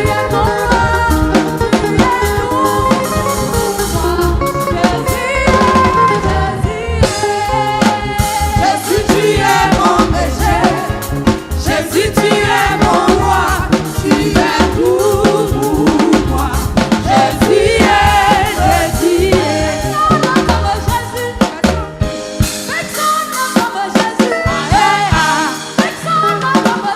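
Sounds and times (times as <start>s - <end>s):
choir singing: 0.0s - 21.4s, 23.7s - 26.9s
bass: 0.0s - 26.9s
drum kit with snare hits: 0.0s - 26.9s.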